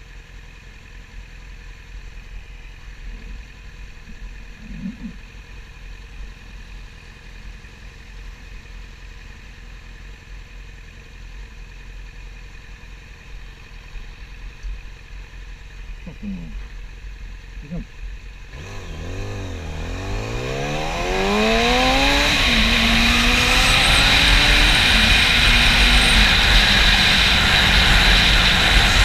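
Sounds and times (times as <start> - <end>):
motorcycle engine running steadily: 0.0 - 29.0.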